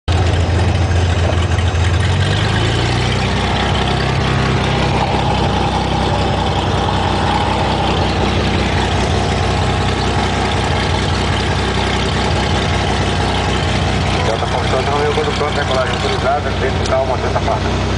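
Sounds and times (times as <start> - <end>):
aircraft engine and propeller: 0.1 - 17.9.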